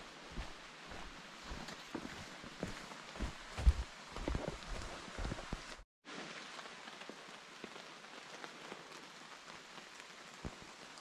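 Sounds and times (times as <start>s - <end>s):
light rain on foliage: 0.0s - 11.0s.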